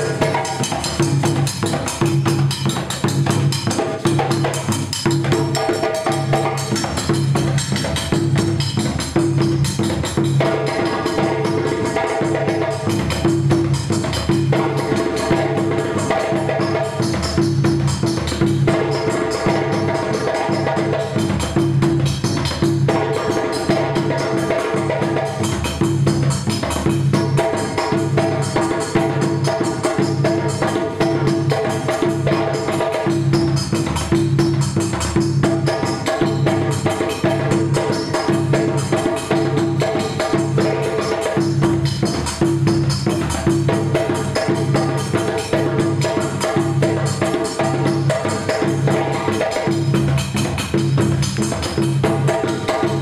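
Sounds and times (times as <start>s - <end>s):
djembe and dunun drums: 0.0s - 53.0s.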